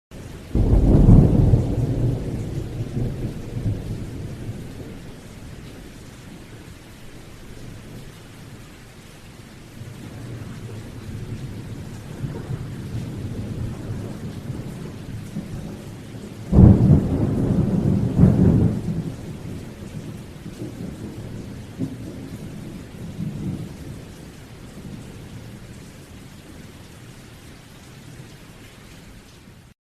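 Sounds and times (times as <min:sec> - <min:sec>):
steady rain: 0:00.1 - 0:29.8
thunder rumbling: 0:00.4 - 0:08.5, 0:09.8 - 0:25.8.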